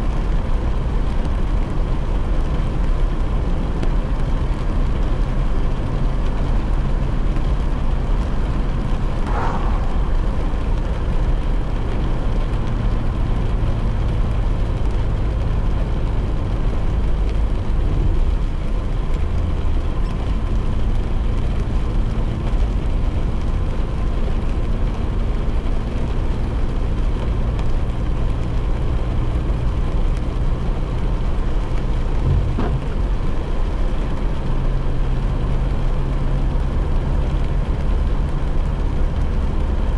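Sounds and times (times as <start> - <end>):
car engine and road hum: 0.0 - 39.9
rain on car: 0.0 - 39.9
tyres on wet road: 0.0 - 39.9.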